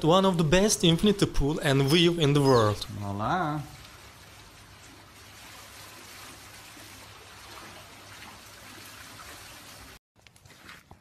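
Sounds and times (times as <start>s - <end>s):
water trickling and lapping: 0.8s - 11.0s.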